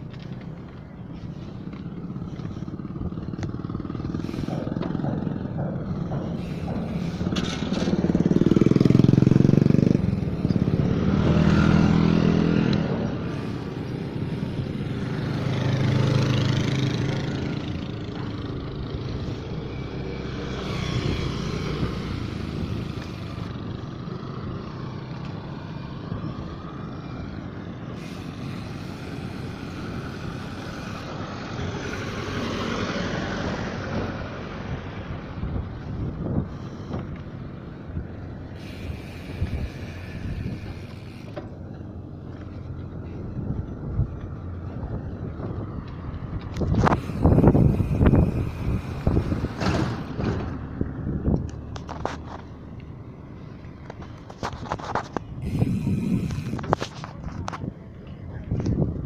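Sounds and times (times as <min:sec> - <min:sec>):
vehicles passing by: 0:00.0 - 0:59.0.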